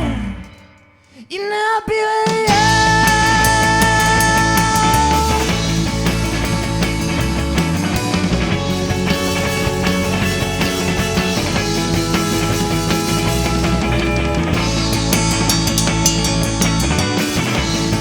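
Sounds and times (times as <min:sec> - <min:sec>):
rock band playing instrumental: 0:02.5 - 0:18.0.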